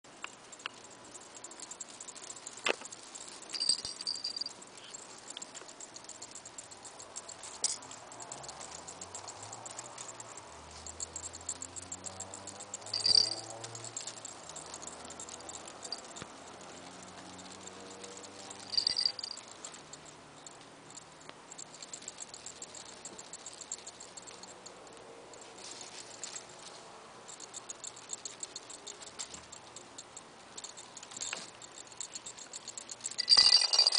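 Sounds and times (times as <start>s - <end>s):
toy rattling: 0.0s - 33.9s
paws and toys tapping: 0.1s - 33.9s.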